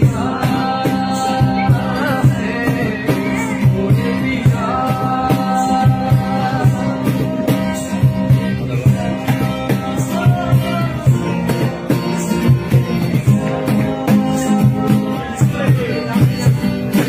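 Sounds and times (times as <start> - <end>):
boy singing: 0.0 - 17.0
instrumental accompaniment with beat: 0.0 - 17.0.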